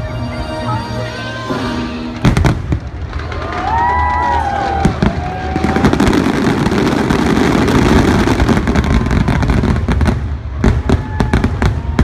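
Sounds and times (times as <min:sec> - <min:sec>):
fireworks bursts and crackling: 0:00.0 - 0:12.0.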